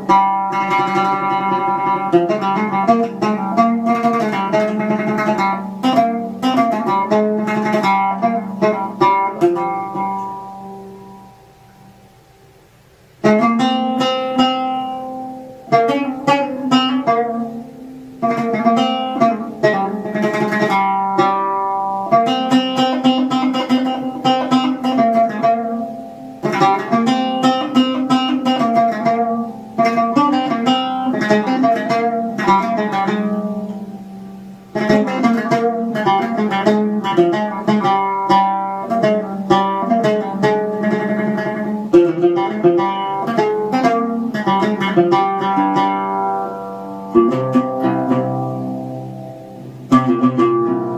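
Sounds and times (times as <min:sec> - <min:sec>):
plucked string instrument: 0:00.0 - 0:50.9.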